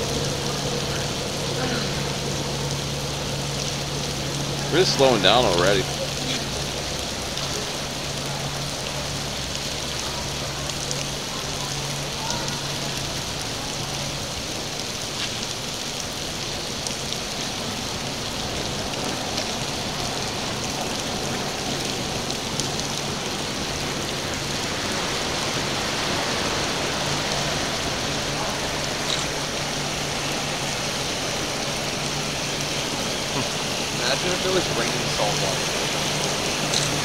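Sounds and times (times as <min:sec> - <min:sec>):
rain hiss: 0:00.0 - 0:37.0.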